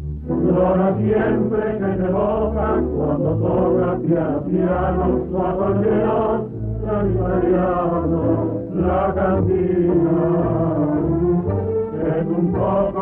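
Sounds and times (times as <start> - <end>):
tango orchestra playing: 0.0 - 13.0.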